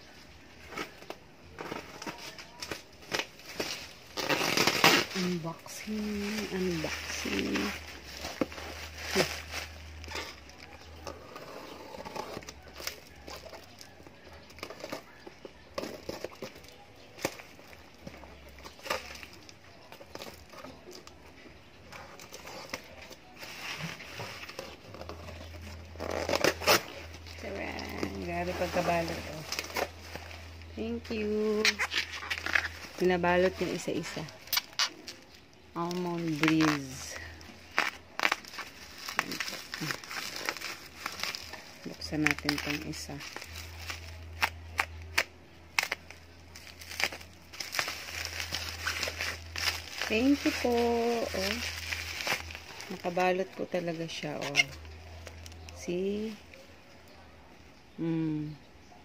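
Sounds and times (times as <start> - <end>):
bubble wrap crinkling: 0.0 - 56.7.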